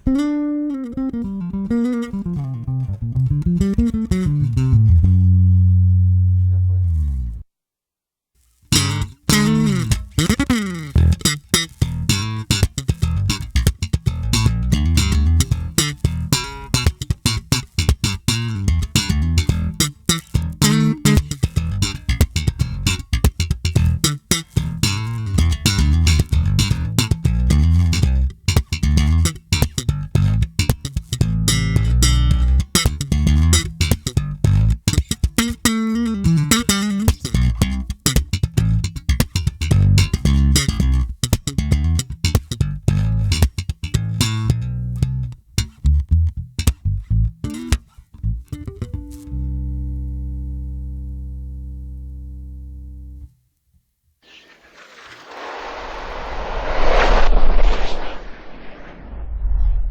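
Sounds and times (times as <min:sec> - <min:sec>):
electric bass groove: 0:00.0 - 0:07.4, 0:08.7 - 0:53.3.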